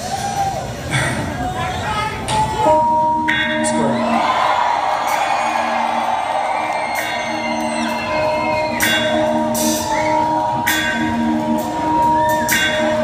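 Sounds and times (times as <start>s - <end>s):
hip-hop backing track: 2.3s - 13.0s.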